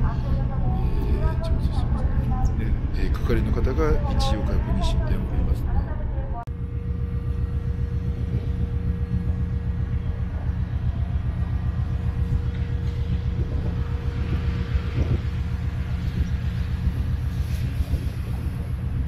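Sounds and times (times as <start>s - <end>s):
constant hum: 0.0s - 19.0s
heavy machinery throbbing rumble: 0.0s - 19.0s.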